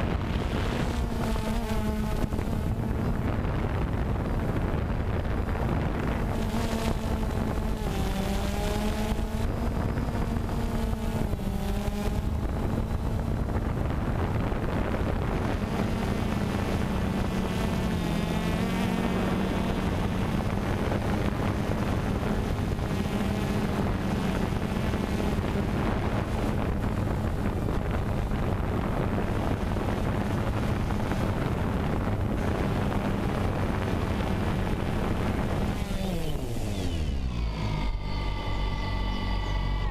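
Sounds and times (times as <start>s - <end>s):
drone propellers buzzing: 0.0s - 39.9s
wind noise on microphone: 0.0s - 39.9s.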